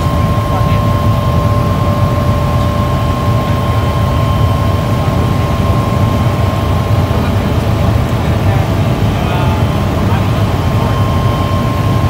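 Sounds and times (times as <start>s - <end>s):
helicopter rotor and engine drone: 0.0s - 12.0s
high whine: 0.0s - 12.0s.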